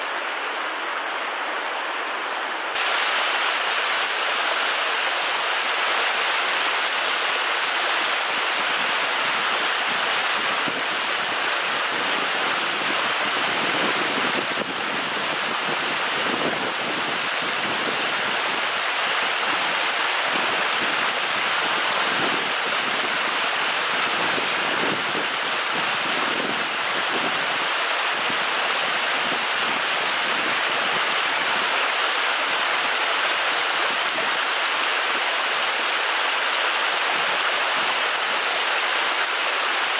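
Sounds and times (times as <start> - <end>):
stream water splashing over rocks: 2.7 - 39.9.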